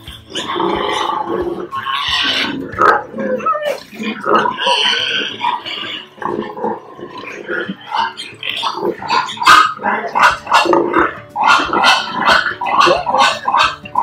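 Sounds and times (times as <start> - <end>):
pigs grunting and squealing: 0.0 - 14.0.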